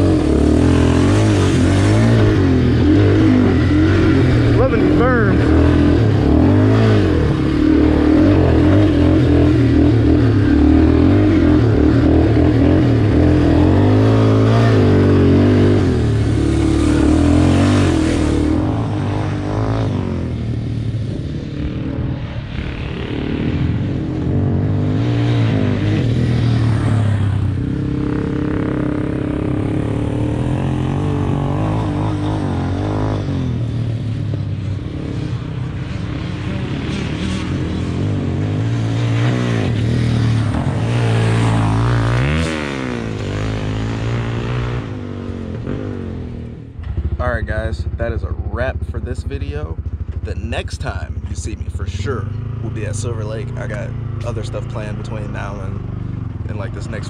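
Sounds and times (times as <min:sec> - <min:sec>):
quad engine revving: 0:00.0 - 0:34.1, 0:35.0 - 0:57.0.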